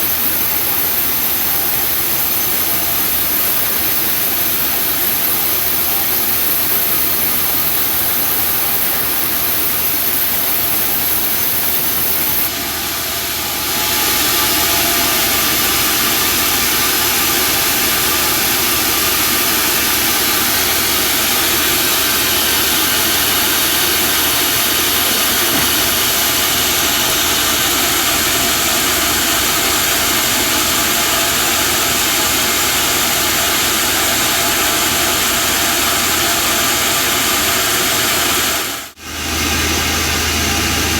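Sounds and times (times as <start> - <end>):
band sawmill running: 0.0 - 40.9.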